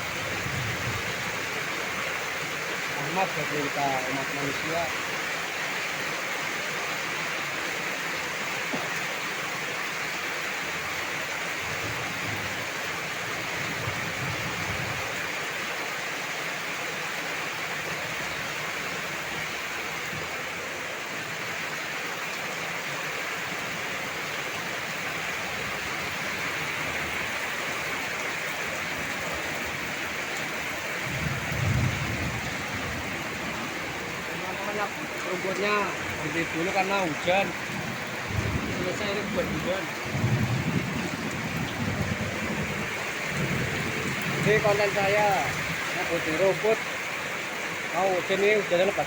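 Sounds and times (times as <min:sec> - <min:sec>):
heavy rain: 0:00.0 - 0:49.0.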